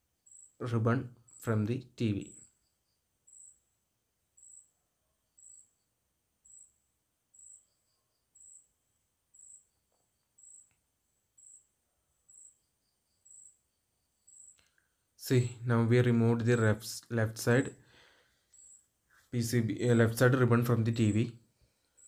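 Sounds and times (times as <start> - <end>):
cricket chirping: 0.0 - 1.5, 2.1 - 15.5, 17.9 - 19.6, 20.8 - 22.0.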